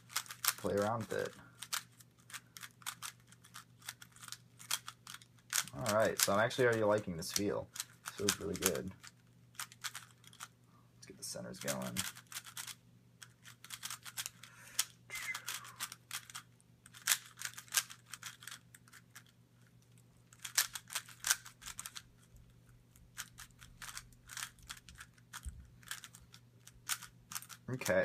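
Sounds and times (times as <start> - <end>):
plastic puzzle cube clicking: 0.0 - 6.4, 7.3 - 10.5, 11.6 - 19.3, 20.3 - 22.3, 23.1 - 28.0.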